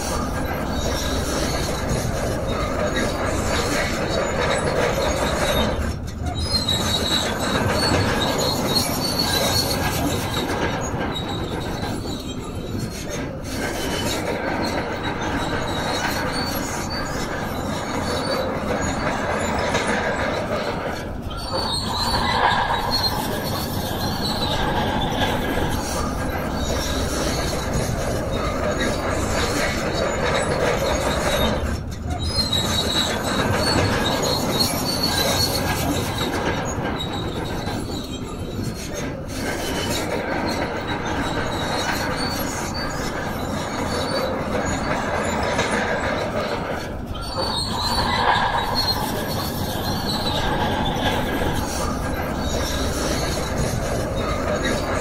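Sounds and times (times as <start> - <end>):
steel tracks squealing and clanking: 0.0 - 55.0.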